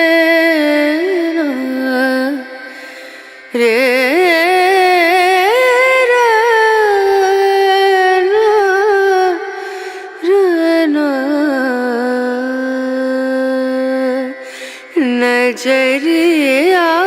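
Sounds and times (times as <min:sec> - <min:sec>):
solo voice singing ornamented melody: 0:00.0 - 0:17.0.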